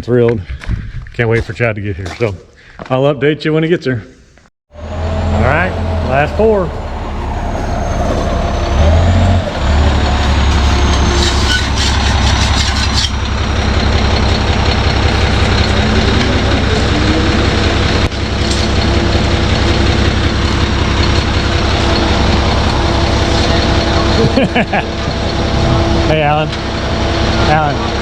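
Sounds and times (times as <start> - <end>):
heavy vehicle engine rumbling: 4.7 - 28.0.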